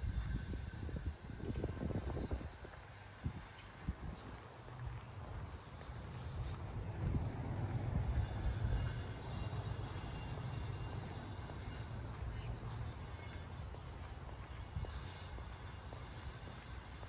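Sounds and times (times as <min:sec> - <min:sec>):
passing vehicle rumble: 0:01.8 - 0:17.0.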